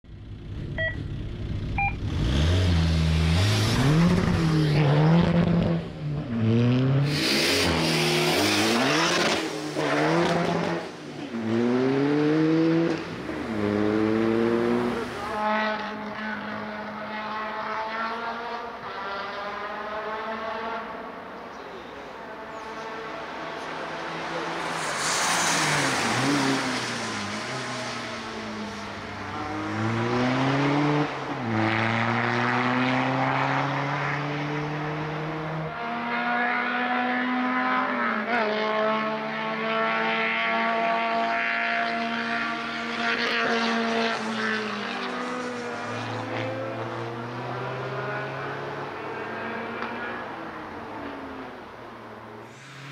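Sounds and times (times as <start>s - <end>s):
race car engine revving: 1.6s - 51.5s.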